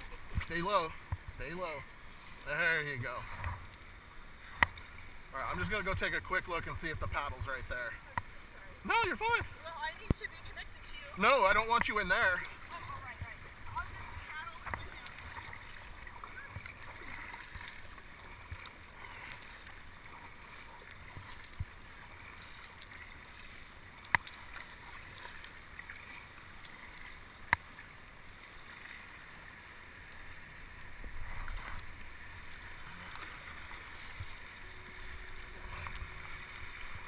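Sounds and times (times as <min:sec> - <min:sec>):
water splashing around kayak: 0:00.0 - 0:37.0.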